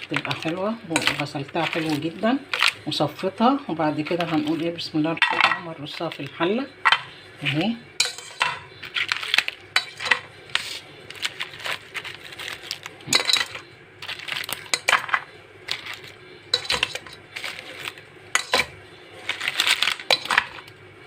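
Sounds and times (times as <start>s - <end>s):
crab shells clacking against pot: 0.0s - 2.9s, 4.0s - 7.2s, 8.0s - 20.8s.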